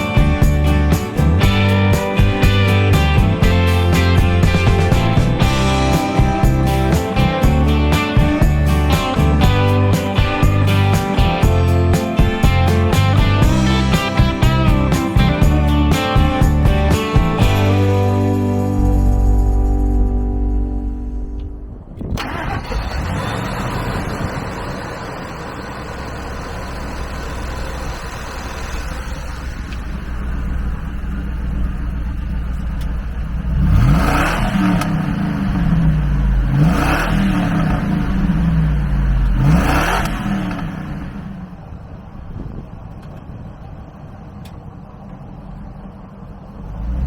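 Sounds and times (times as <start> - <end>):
engine revving: 0.0 - 30.6, 32.8 - 41.6, 46.6 - 47.0
truck engine starting and idling: 0.0 - 47.0.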